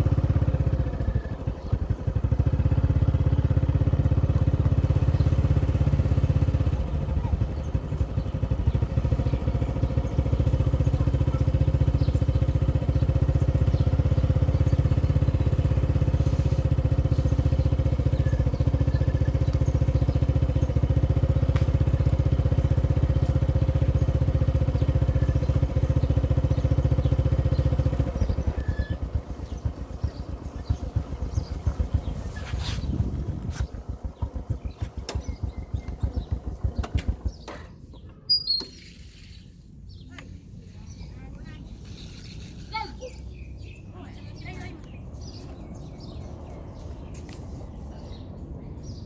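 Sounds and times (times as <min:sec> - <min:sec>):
small motorcycle engine running: 0:00.0 - 0:49.0.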